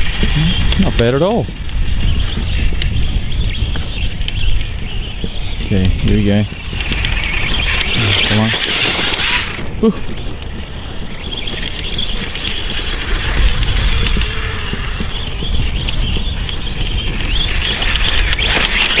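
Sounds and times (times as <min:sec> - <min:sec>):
electric motor high whine: 0:00.0 - 0:19.0
wind rumble on microphone: 0:00.0 - 0:19.0.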